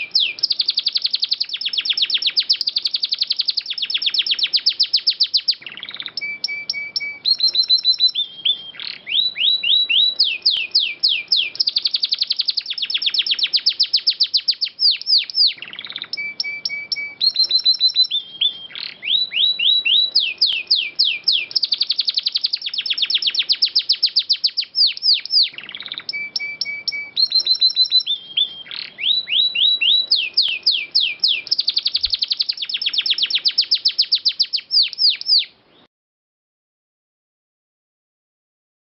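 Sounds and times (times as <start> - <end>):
canary singing trills: 0.0 - 35.9.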